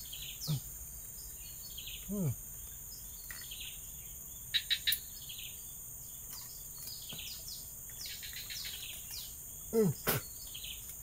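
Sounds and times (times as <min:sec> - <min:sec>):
birds calling falling notes: 0:00.0 - 0:11.0
high insect drone: 0:00.0 - 0:11.0
lower falling bird calls: 0:00.0 - 0:11.0.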